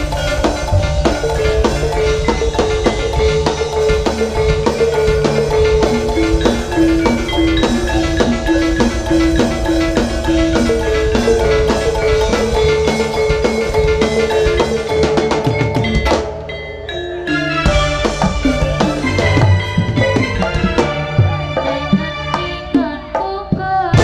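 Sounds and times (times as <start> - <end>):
metallophone melody: 0.0 - 23.3
drumming: 0.0 - 24.0.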